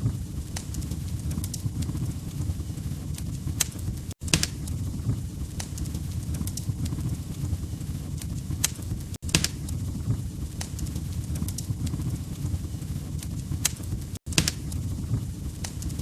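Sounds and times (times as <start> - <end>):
fire popping and snapping: 0.0 - 16.0
low rumble of burning logs: 0.0 - 16.0.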